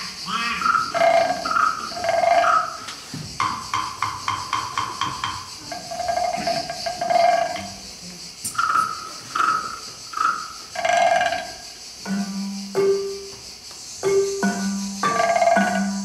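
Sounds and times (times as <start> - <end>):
wooden xylophone melody: 0.7 - 2.8, 3.4 - 7.8, 8.6 - 16.0.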